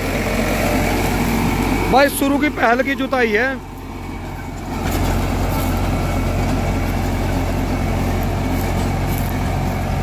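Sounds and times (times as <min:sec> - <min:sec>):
diesel tractor engine under load: 0:00.0 - 0:10.0
rotavator churning wet soil: 0:00.0 - 0:10.0.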